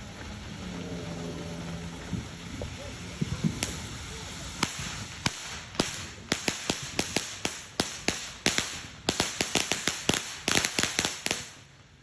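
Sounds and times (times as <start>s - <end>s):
fireworks cracking: 1.5s - 12.0s.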